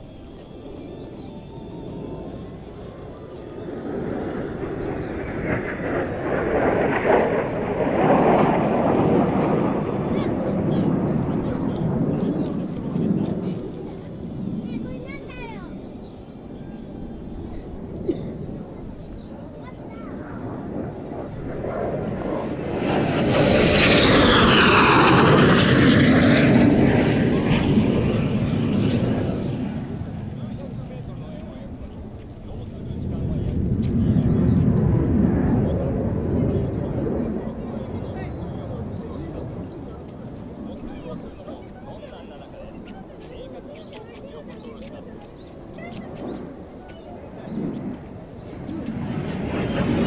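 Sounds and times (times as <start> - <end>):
jets flying past: 0.0 - 50.0.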